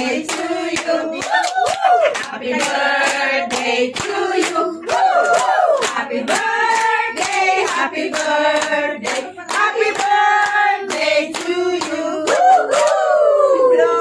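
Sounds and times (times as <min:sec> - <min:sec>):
people clapping along: 0:00.0 - 0:13.5
group of people singing: 0:00.0 - 0:14.0.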